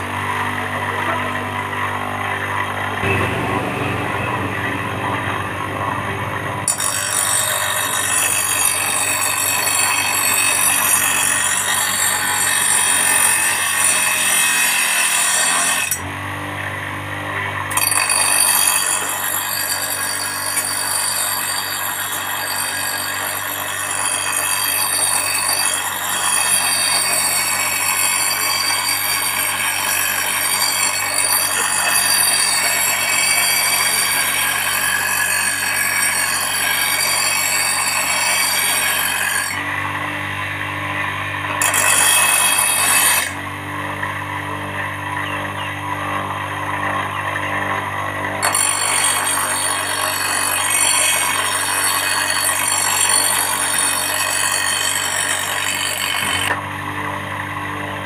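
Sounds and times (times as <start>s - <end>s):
grinder grinding metal blade: 0.0s - 58.0s
grinder motor hum: 0.0s - 58.0s.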